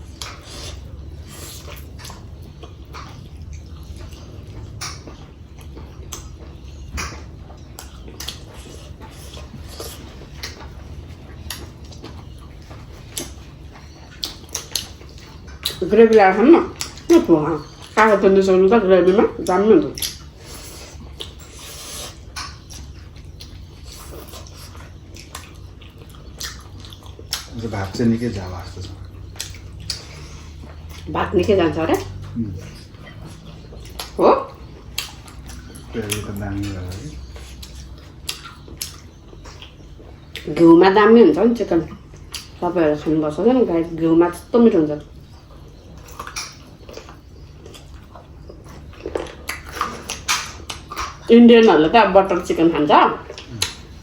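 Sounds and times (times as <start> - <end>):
wet chewing and lip-smacking: 0.0 - 54.0.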